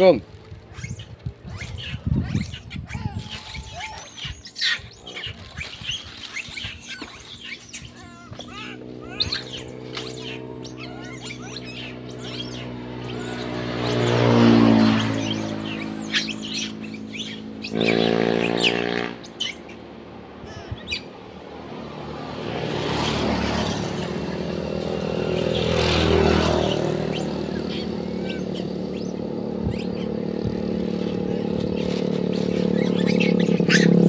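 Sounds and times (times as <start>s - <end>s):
young monkeys squeaking: 0.0s - 21.9s, 22.8s - 34.0s
vehicles passing: 0.0s - 34.0s.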